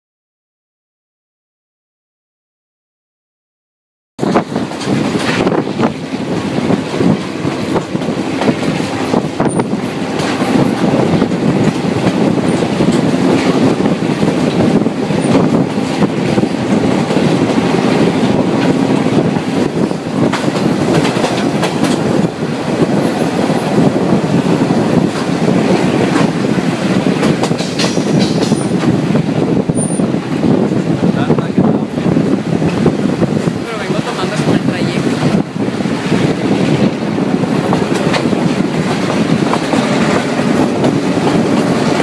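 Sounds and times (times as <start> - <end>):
train wheels rumbling on rail: 4.2 - 42.0.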